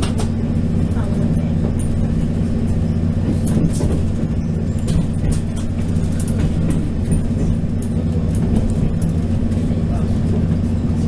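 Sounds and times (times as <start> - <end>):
wheel clicks and rattles: 0.0 - 9.6
diesel engine drone: 0.0 - 11.0.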